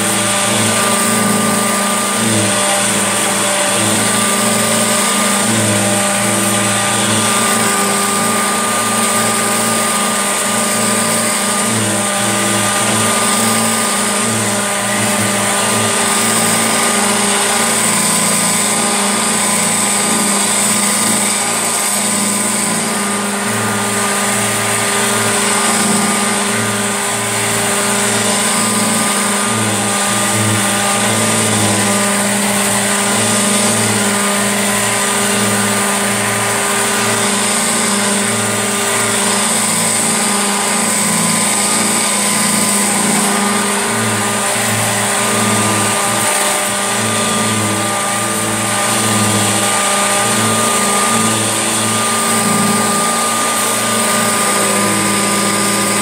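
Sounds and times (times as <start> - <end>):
upright vacuum cleaner running: 0.0 - 56.0.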